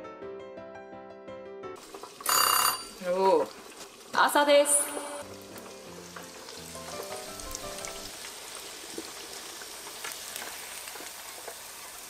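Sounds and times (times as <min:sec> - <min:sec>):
deep-frying sizzle and crackles: 0:01.8 - 0:12.0.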